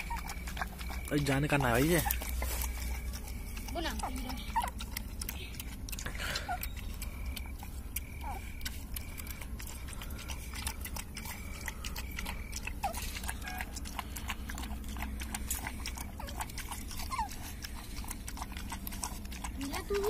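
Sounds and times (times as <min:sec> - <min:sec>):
dogs lapping milk from bowl: 0:00.0 - 0:20.0
puppies suckling: 0:00.0 - 0:20.0.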